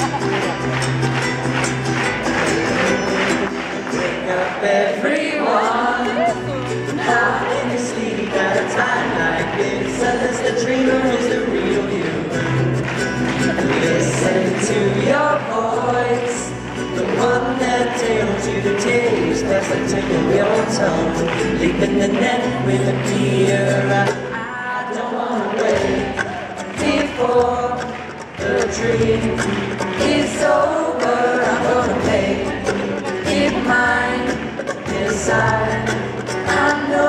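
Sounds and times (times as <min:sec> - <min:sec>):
upright bass: 0:00.0 - 0:04.7, 0:05.5 - 0:24.6, 0:25.6 - 0:37.0
strummed acoustic guitar: 0:00.0 - 0:37.0
ukulele: 0:00.0 - 0:37.0
voices singing in harmony: 0:02.4 - 0:12.7, 0:13.3 - 0:37.0.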